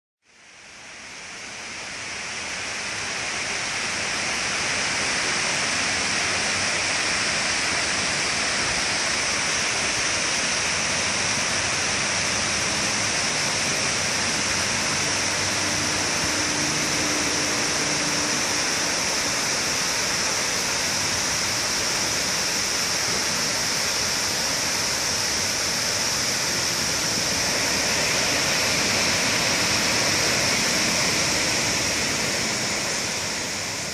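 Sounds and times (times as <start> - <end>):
waterfall rushing: 0.4 - 33.9.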